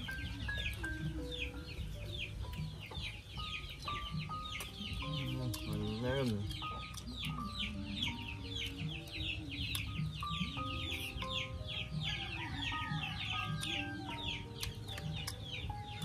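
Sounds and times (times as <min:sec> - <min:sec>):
melody of held notes: 0:00.0 - 0:16.0.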